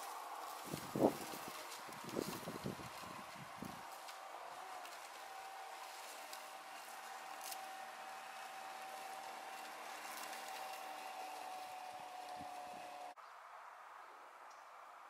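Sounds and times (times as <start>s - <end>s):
robotic lawn mower whine: 0.0s - 13.2s.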